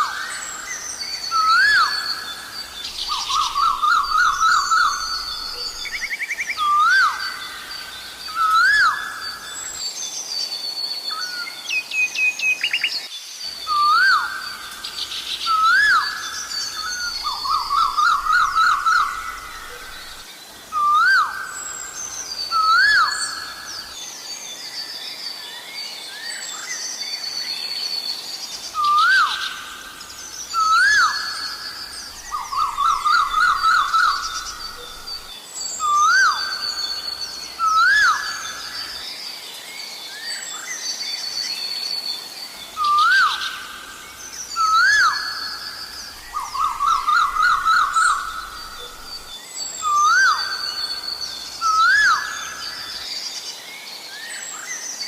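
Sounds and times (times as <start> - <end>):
bird calling with whistled notes: 0.0 - 55.0
birds chirping and twittering: 0.0 - 55.0.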